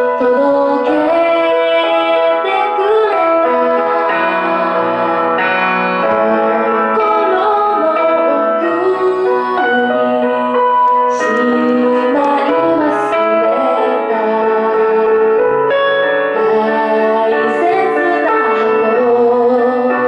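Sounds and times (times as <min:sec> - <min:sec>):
woman singing pop ballad: 0:00.0 - 0:15.4, 0:16.2 - 0:20.0
piano accompaniment: 0:00.0 - 0:20.0.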